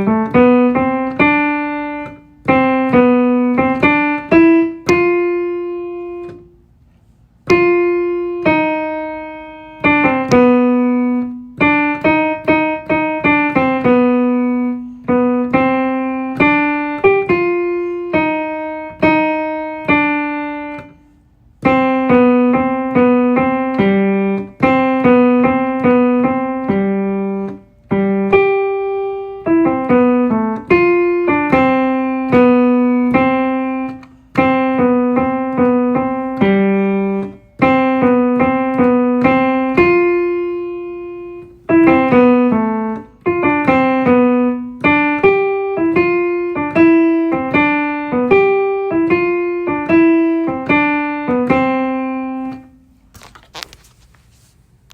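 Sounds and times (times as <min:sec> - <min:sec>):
piano melody single notes: 0:00.0 - 0:53.0.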